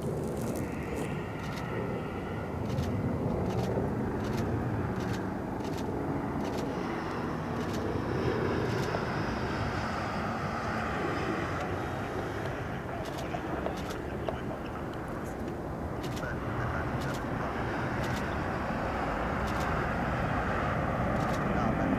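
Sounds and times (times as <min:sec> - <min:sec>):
jet engine rumble: 0:00.0 - 0:21.9.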